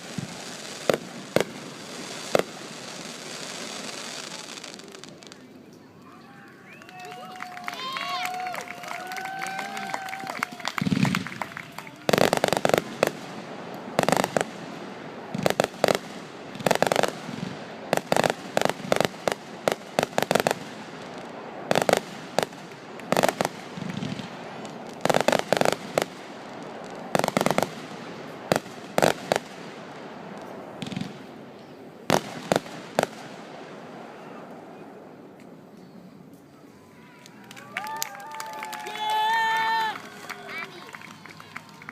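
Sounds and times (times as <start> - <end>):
fireworks bangs: 0.0 - 5.5, 7.1 - 36.4
fireworks crackling: 0.0 - 41.9.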